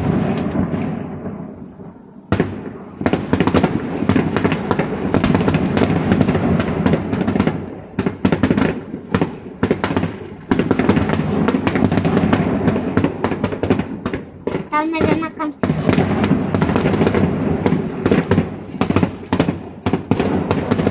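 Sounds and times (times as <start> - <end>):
fireworks bangs and crackling: 0.0 - 20.9.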